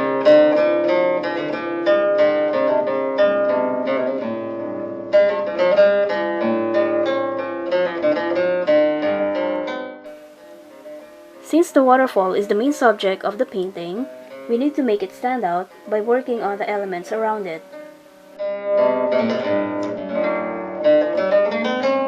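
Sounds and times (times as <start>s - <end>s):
plucked-string instrumental music: 0.0s - 22.0s.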